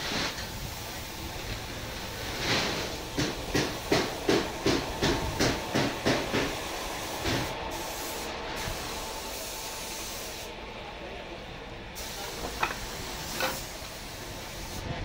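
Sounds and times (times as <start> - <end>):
steady hissing: 0.0 - 15.0.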